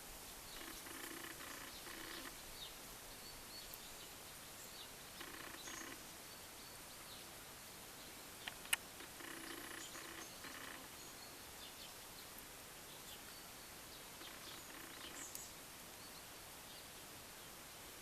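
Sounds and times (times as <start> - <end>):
steady hiss: 0.0 - 18.0
small bird chirps: 0.4 - 7.2, 8.4 - 16.9.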